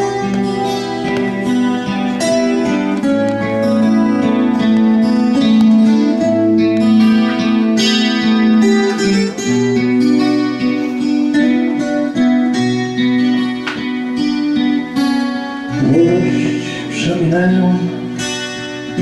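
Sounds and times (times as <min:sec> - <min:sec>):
guitar with long held notes: 0:00.0 - 0:19.0.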